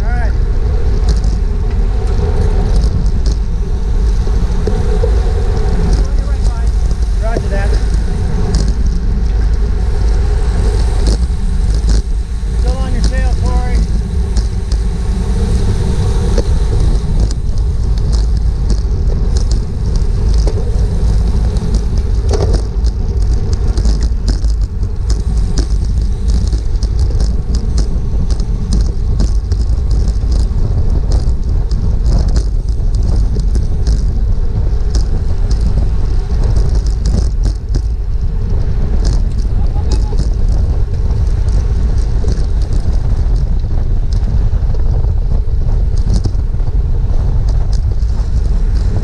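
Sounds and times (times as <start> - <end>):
wind rumble on microphone: 0.0 - 49.0.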